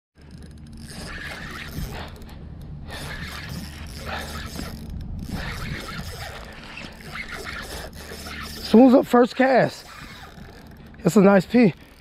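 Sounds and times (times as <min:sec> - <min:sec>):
fishing reel ratchet clicking: 0:00.2 - 0:12.0
steady low hum: 0:00.2 - 0:12.0.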